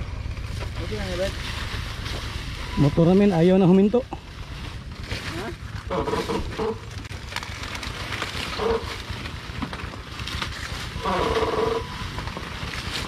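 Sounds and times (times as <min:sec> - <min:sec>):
motorcycle engine running: 0:00.0 - 0:13.0
rough trail noise: 0:00.0 - 0:13.0.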